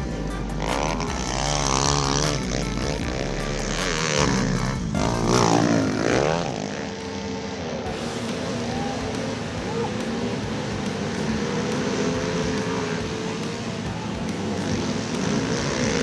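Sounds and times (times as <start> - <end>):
small motorbike engines revving: 0.0 - 16.0.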